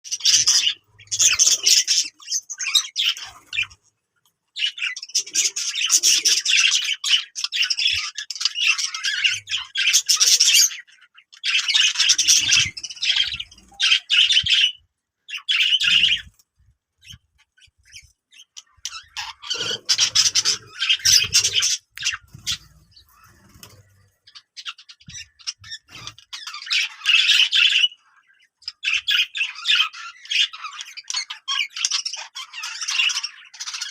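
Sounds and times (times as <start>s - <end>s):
budgerigars chattering and squawking: 0.0s - 3.9s, 4.6s - 16.4s, 17.0s - 33.9s.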